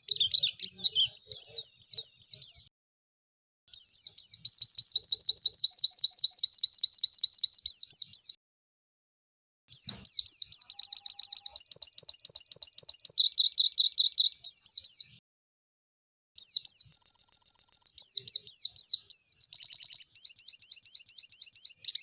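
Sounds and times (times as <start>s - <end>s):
bird singing rapid high notes: 0.0s - 2.7s, 3.7s - 8.4s, 9.7s - 15.2s, 16.4s - 22.0s.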